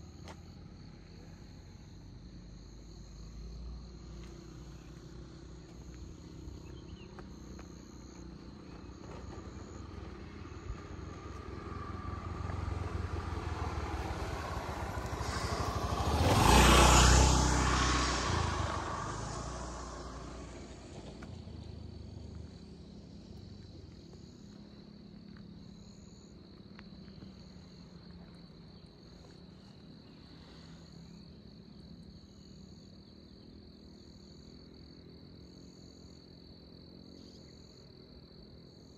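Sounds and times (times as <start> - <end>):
insects chirping: 0.0 - 38.9
vehicle passing by: 0.2 - 32.8.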